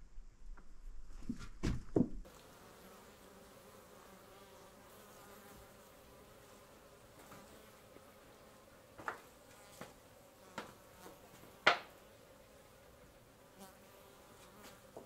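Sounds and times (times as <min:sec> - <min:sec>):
flying insects buzzing: 0:02.3 - 0:15.0.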